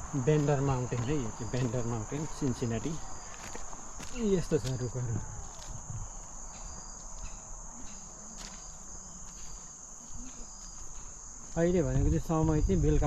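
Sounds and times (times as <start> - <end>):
insects singing: 0.0 - 13.0.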